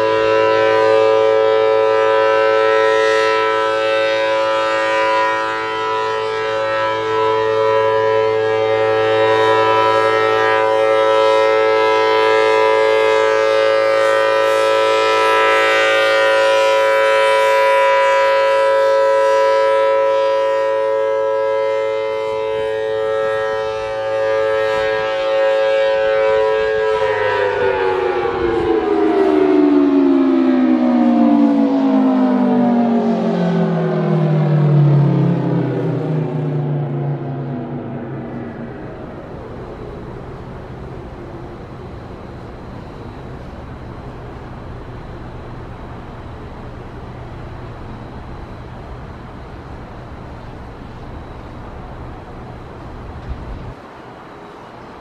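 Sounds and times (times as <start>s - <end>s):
dual-tone siren: 0.0s - 55.0s.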